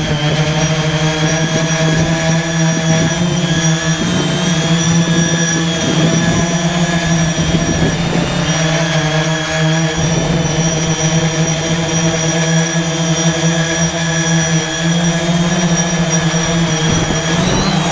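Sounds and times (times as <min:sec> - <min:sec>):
drone motors humming: 0:00.0 - 0:17.9
propeller whining tones: 0:00.0 - 0:17.9.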